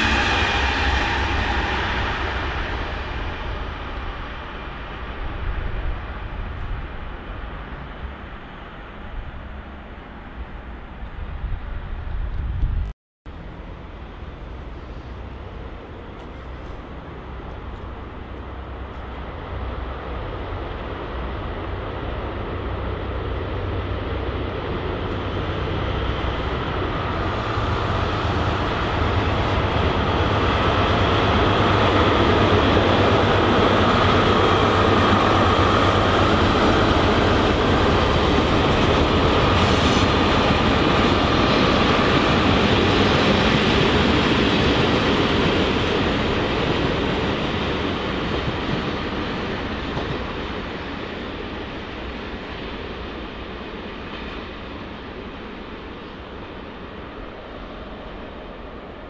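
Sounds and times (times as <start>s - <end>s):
train passing: 0.0s - 59.0s.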